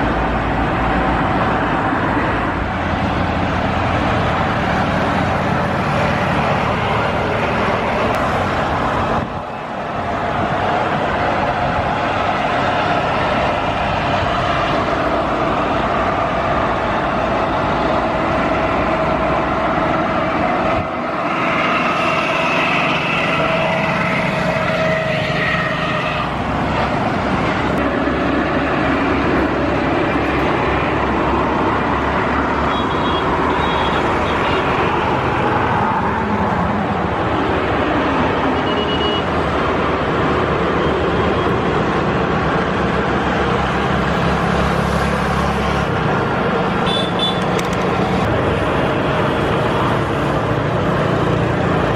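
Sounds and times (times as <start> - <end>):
jet engines roaring with whine: 0.0 - 51.9.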